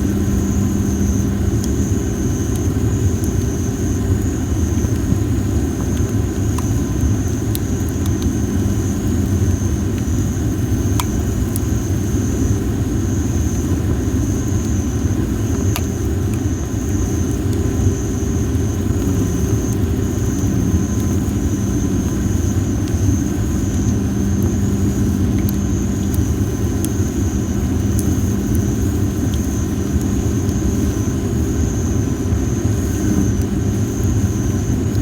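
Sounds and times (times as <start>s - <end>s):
fire low rumble: 0.0s - 35.0s.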